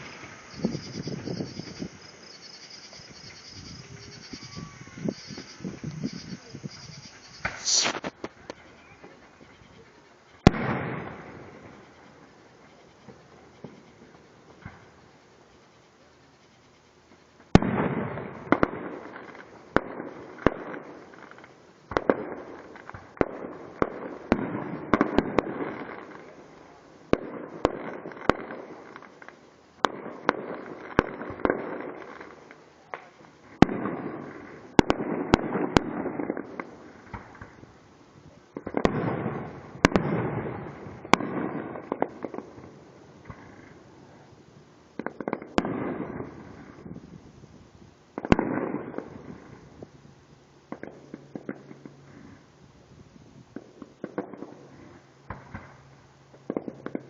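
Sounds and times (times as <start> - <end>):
fireworks bangs: 0.0 - 9.6, 10.4 - 15.0, 17.4 - 47.4, 48.1 - 50.0, 50.7 - 52.5, 53.4 - 57.0.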